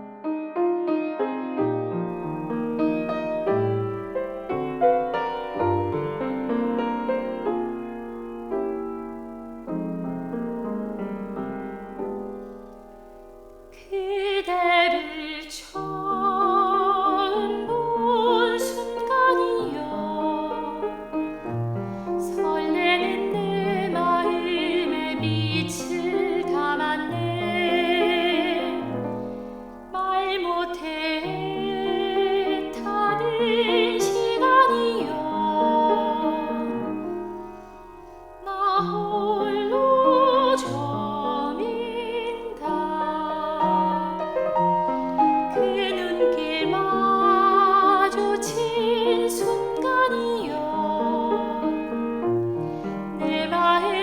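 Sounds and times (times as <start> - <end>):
classical singing with vibrato: 2.1 - 54.0.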